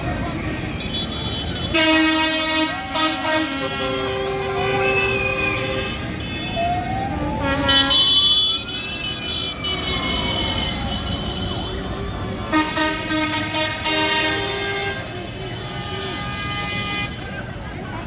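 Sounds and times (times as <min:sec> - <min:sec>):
rumble of engines: 0:00.0 - 0:18.0
vehicle horns honking: 0:00.6 - 0:06.6, 0:07.4 - 0:17.3.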